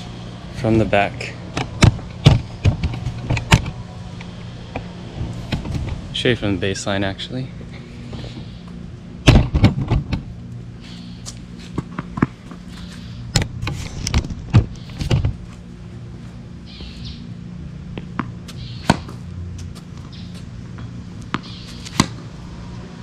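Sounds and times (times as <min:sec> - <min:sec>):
low outdoor hum: 0:00.0 - 0:23.0.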